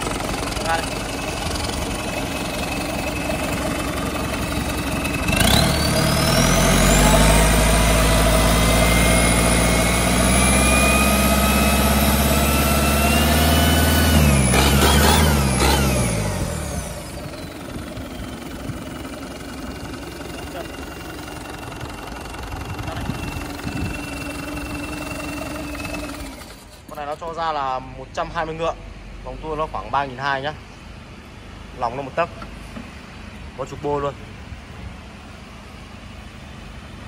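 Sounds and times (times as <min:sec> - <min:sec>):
diesel engine revving: 0:00.0 - 0:30.4.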